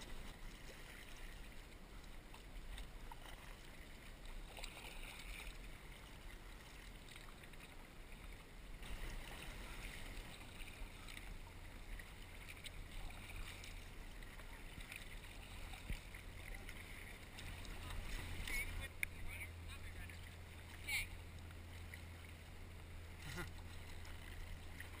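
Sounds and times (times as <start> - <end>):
steady low rumble: 0.0 - 25.0
water splashing against kayak hull: 0.0 - 25.0.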